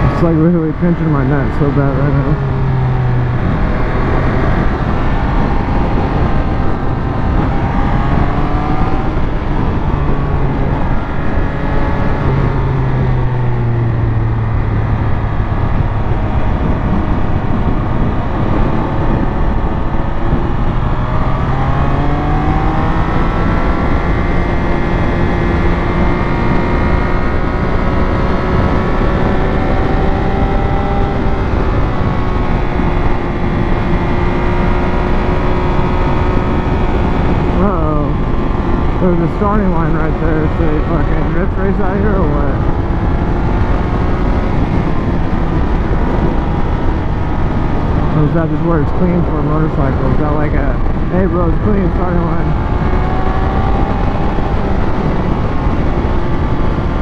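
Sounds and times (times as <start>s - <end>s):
motorcycle engine under way: 0.0s - 57.0s
wind noise rushing: 0.0s - 57.0s.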